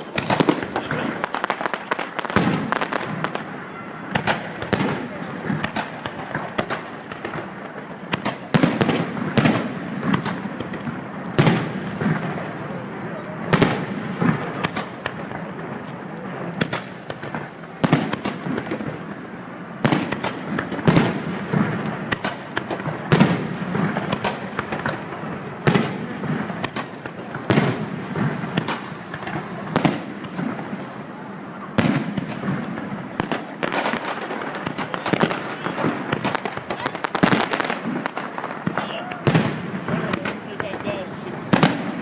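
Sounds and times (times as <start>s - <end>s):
fireworks bursting with sharp bangs: 0.0s - 42.0s.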